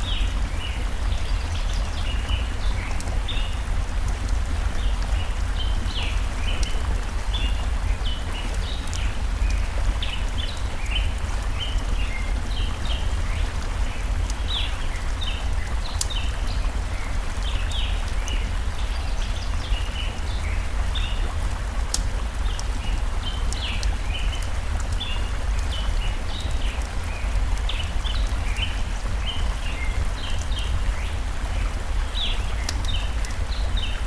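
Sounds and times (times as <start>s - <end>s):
birds chirping: 0.0s - 34.0s
stream water running: 0.0s - 34.0s
wood fire crackling: 0.0s - 34.0s.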